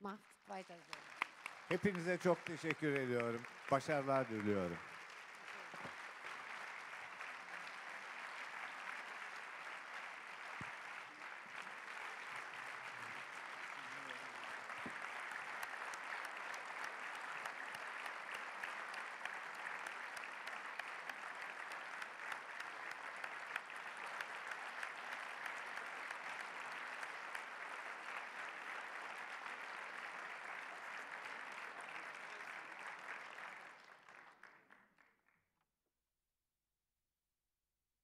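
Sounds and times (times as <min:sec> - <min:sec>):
audience applauding: 0:00.5 - 0:35.4.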